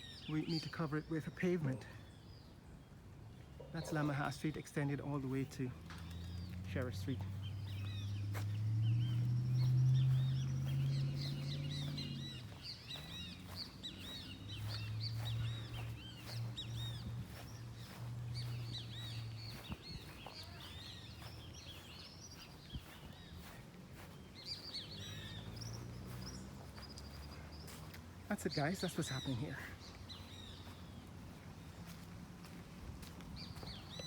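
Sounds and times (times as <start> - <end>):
small birds chirping: 0.0 - 34.0
traffic engine hum: 0.0 - 34.0.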